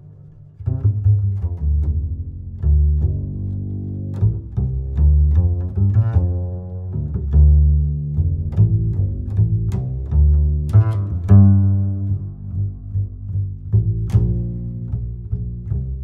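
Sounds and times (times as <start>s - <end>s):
deep sustained bass notes: 0.0s - 16.0s.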